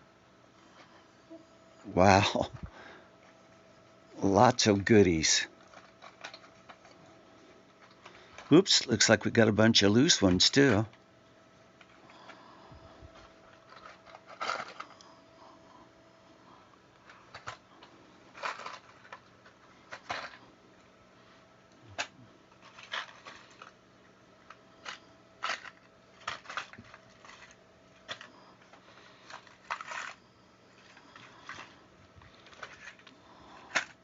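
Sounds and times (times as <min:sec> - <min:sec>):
wire connectors rustling and clicking: 0:02.0 - 0:11.0, 0:11.8 - 0:15.2, 0:16.9 - 0:20.9, 0:21.7 - 0:23.8, 0:24.4 - 0:34.0.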